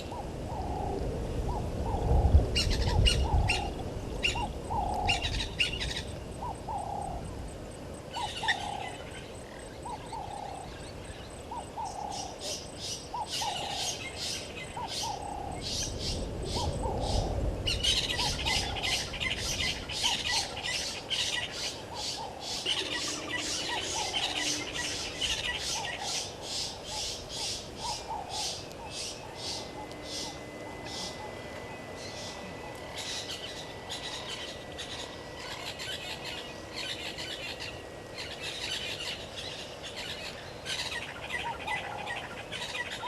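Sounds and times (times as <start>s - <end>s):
birds chattering in high calls: 0.0s - 7.4s, 8.0s - 43.0s.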